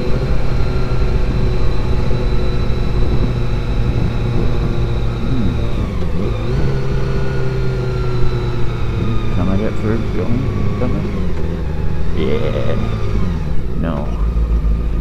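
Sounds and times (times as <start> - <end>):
motorcycle engine running: 0.0 - 15.0
steady low rumble: 0.0 - 15.0.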